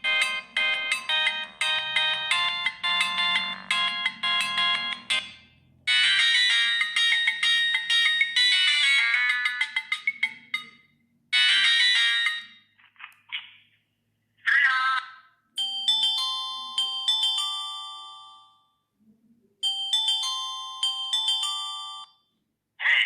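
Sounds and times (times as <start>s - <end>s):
mobile phone ringtone melodies: 0.0s - 12.7s, 15.6s - 18.8s, 19.6s - 22.4s.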